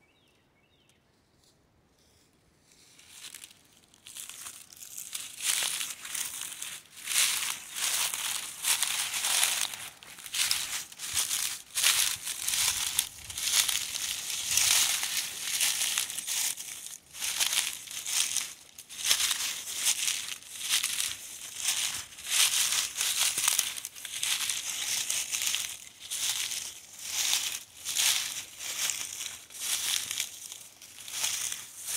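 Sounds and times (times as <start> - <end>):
footsteps crunching through dry leaves: 2.8 - 31.9.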